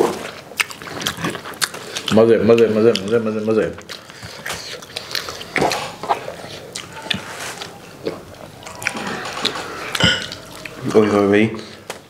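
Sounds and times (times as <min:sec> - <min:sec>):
people chewing and smacking lips: 0:00.0 - 0:12.0.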